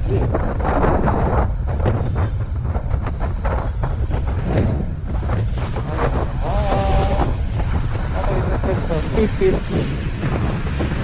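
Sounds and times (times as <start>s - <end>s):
road and traffic rumble: 0.0s - 11.0s
wind buffeting microphone: 0.0s - 11.0s.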